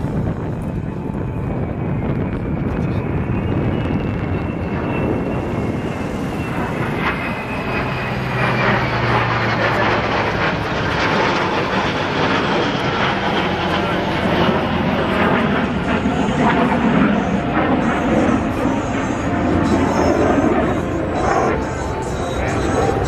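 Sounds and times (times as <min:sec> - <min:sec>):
aircraft flying over: 0:00.0 - 0:23.0.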